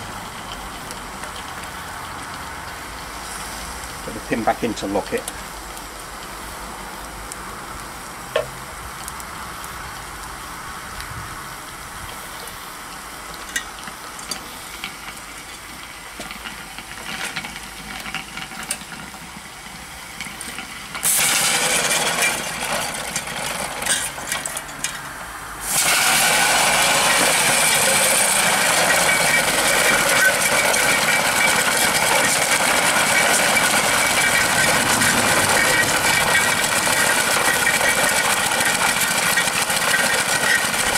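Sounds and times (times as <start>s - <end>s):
steam hissing: 1.6s - 17.1s, 19.1s - 24.4s, 25.4s - 40.9s.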